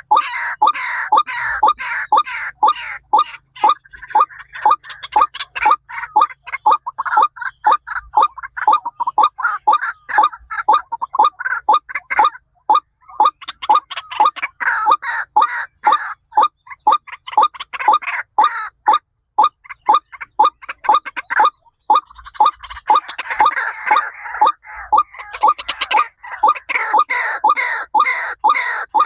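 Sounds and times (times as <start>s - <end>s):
bird calling in sharp notes: 0.0s - 29.0s.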